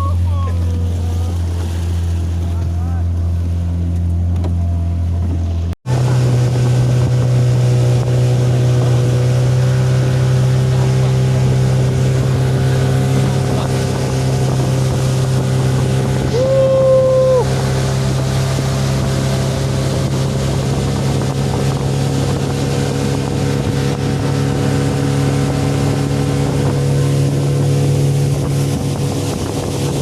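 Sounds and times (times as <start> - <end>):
speedboat engine running: 0.0 - 30.0.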